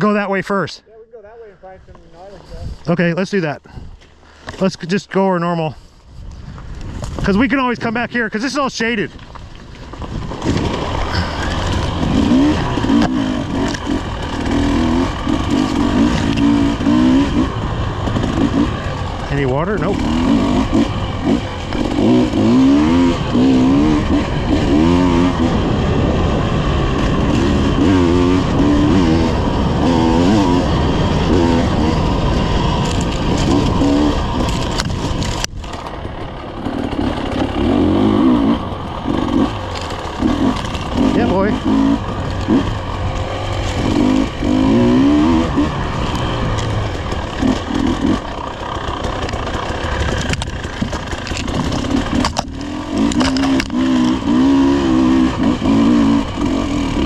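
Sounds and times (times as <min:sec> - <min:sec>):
off-road vehicle engine revving: 0:10.0 - 0:57.0.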